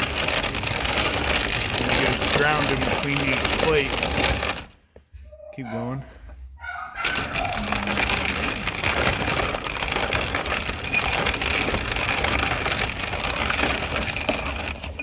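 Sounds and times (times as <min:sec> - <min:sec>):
hand grinder crunching corn: 0:00.0 - 0:04.8, 0:07.0 - 0:15.0.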